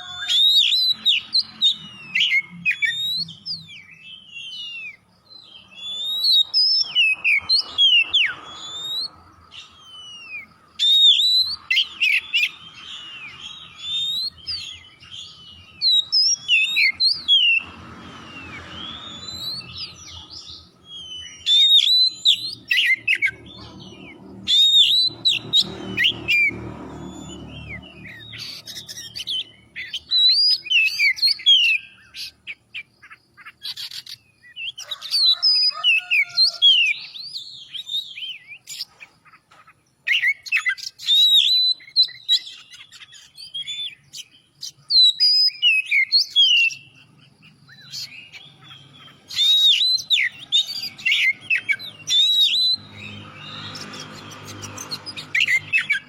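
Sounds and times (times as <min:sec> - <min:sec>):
bird singing whistled phrases: 0:00.0 - 0:17.6, 0:18.3 - 0:38.9, 0:40.0 - 0:56.0.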